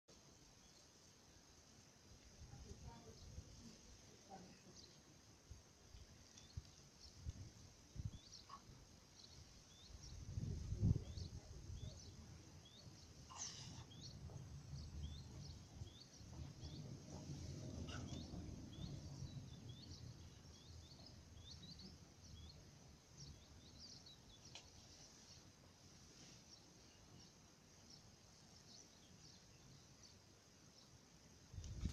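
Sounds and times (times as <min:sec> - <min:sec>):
small birds chirping: 0:02.2 - 0:31.9.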